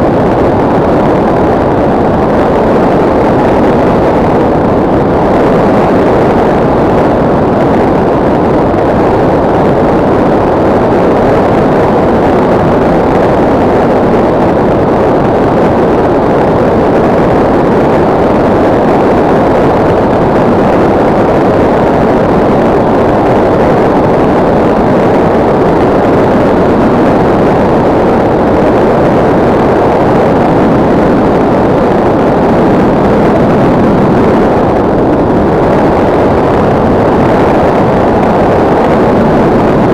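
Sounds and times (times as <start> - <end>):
rush of air buffeting: 0.0 - 39.9.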